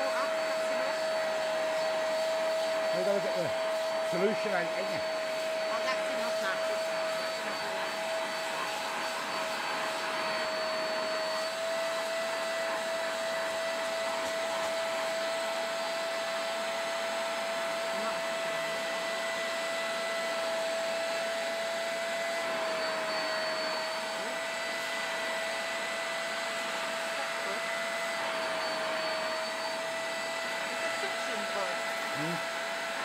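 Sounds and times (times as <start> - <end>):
spot cleaner suction droning: 0.0 - 33.0.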